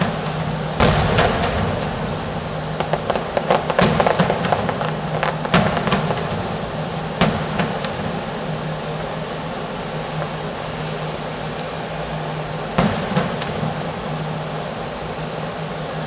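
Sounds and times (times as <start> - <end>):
distant fireworks bursting: 0.0 - 15.7
steady low hum: 0.0 - 16.0.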